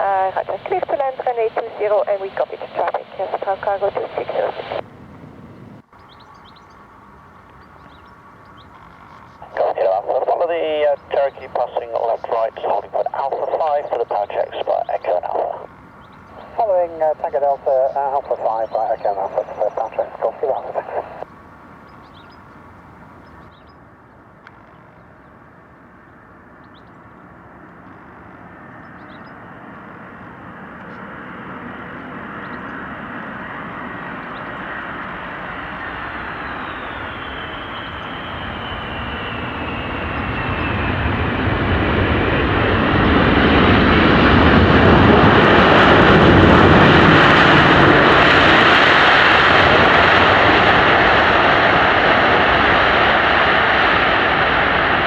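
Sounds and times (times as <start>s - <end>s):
jet airliner passing: 0.0s - 23.5s, 25.4s - 55.0s.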